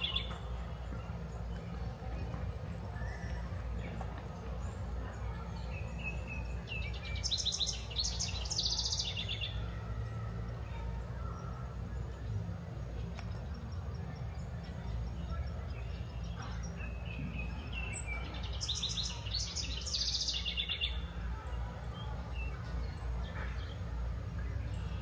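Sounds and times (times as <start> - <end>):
songbird singing: 0.0 - 25.0.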